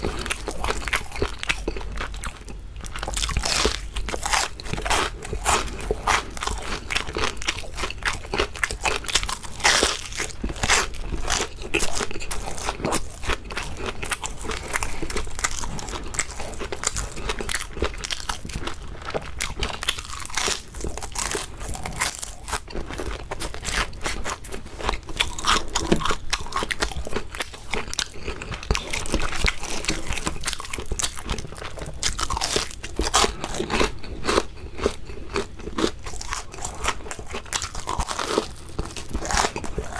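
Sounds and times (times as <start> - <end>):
chewing crunches: 0.0 - 39.9.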